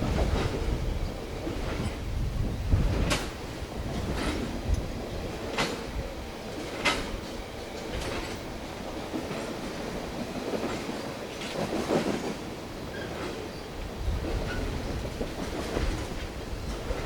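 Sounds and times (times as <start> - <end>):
train wheels clacking on rail joints: 0.0 - 17.0.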